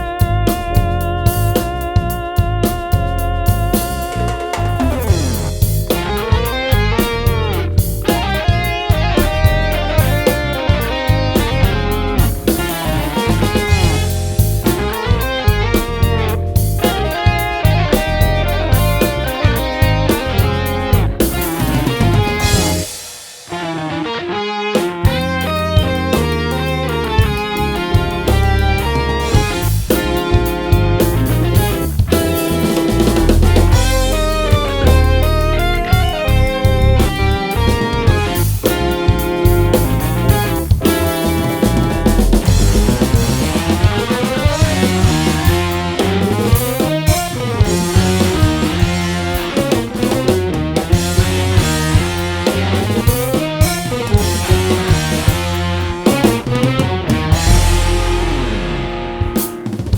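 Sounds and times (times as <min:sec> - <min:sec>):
instrumental rock music: 0:00.0 - 0:59.9.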